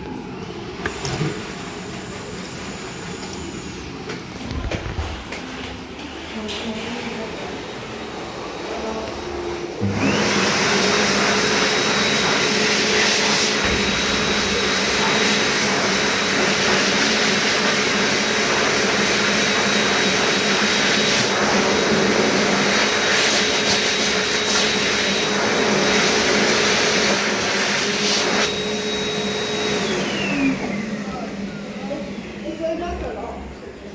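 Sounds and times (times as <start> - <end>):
hand dryer running: 0.0 - 33.9.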